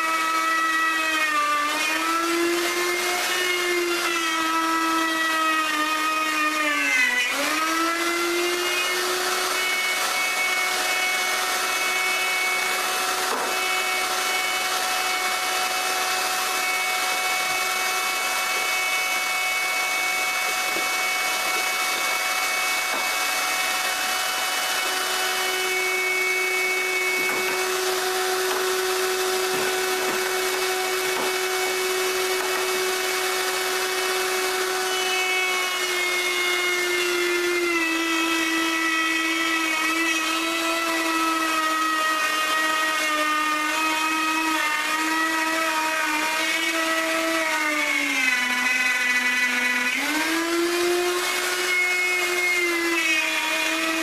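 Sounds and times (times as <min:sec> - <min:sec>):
router bit cutting wood: 0:00.0 - 0:54.0
router motor whine: 0:00.0 - 0:54.0.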